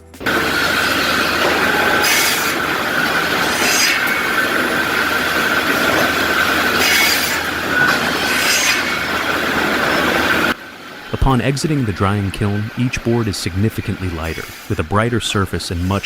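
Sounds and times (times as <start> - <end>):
high-pitched squeal: 0.0 - 16.0
industrial machine noise: 0.0 - 16.0
swells of hiss: 0.2 - 16.0.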